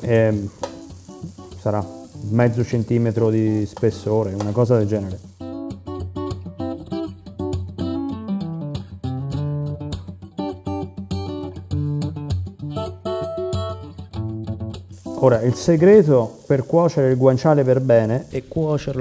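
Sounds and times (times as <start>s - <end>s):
guitar picking a melody: 0.0s - 19.0s.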